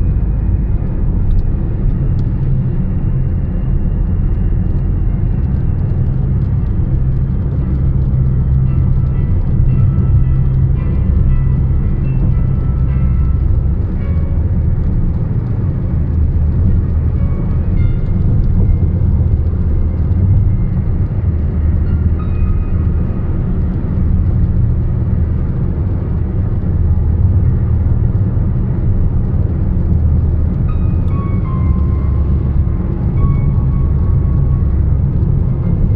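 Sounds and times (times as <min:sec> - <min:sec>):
car driving on highway: 0:00.0 - 0:35.9.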